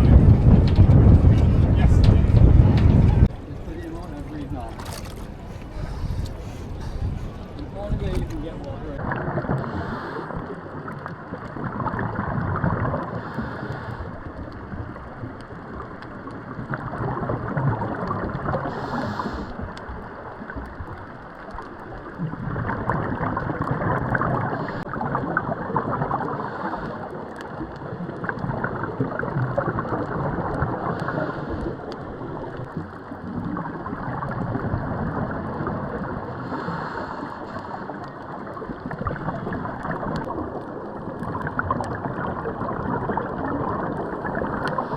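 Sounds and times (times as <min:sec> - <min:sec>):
water sloshing around a boat: 0:00.0 - 0:44.9.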